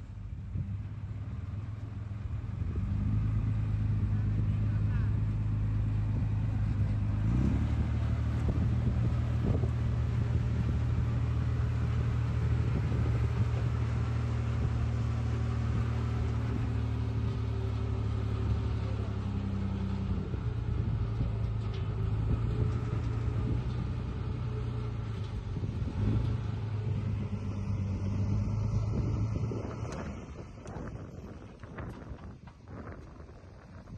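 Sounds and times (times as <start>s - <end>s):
diesel engine rumbling: 0.0s - 33.9s.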